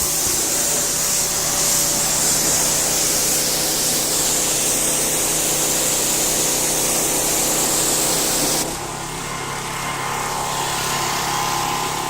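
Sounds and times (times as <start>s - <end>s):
pressure washer engine running: 0.0s - 12.0s
water jet spraying hiss: 0.0s - 12.0s.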